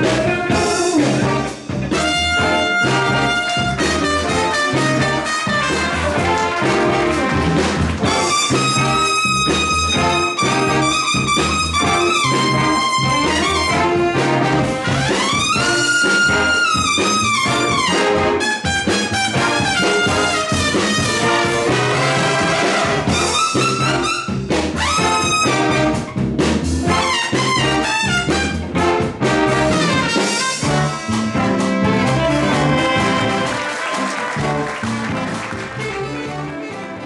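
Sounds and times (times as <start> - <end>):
trumpets: 0.0 - 26.2, 26.8 - 37.0
jazz big band playing: 0.0 - 37.0.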